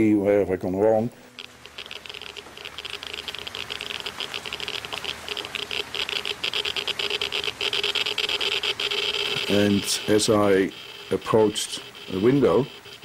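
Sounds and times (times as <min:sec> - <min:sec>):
geiger counter clicking rapidly: 0:01.0 - 0:13.0.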